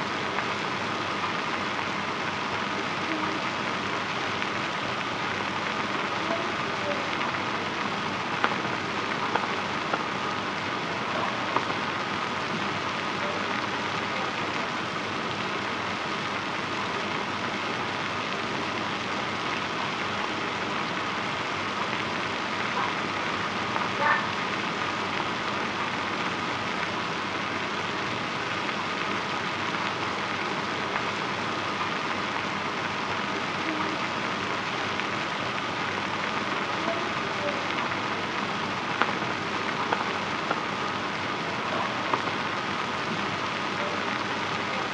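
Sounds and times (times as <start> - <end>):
water boiling and bubbling: 0.0 - 44.9.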